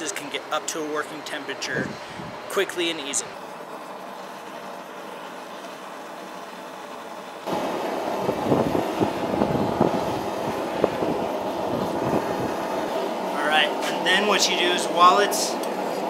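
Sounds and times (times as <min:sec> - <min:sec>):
gas forge roaring: 0:00.0 - 0:16.0
steady whine: 0:00.0 - 0:16.0.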